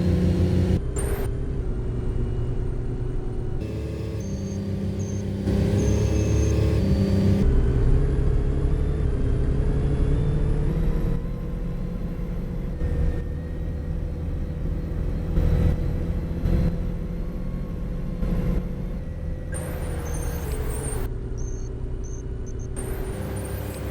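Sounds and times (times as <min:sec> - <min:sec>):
bus engine running: 0:00.0 - 0:23.9.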